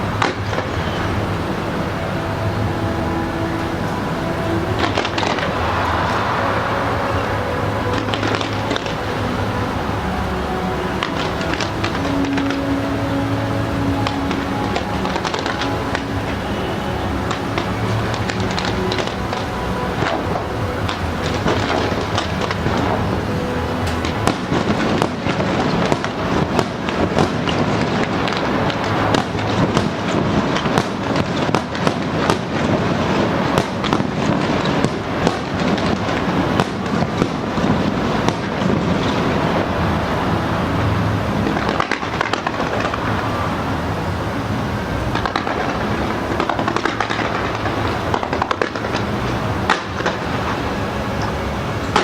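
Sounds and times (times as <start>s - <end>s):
fireworks bangs and crackles: 0.1s - 52.0s.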